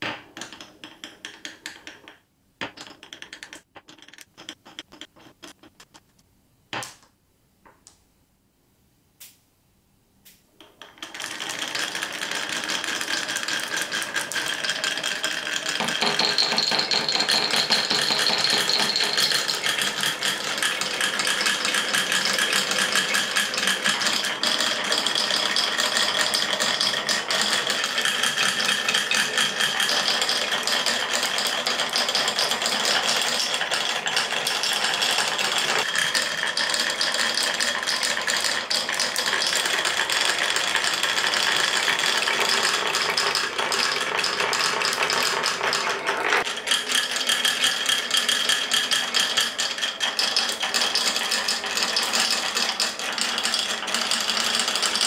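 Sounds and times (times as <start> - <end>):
glass marbles clattering on wood: 0.0 - 5.8, 10.6 - 55.0.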